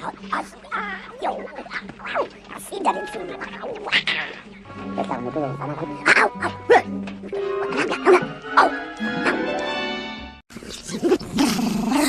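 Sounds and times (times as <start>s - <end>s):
film soundtrack music: 0.0s - 10.4s.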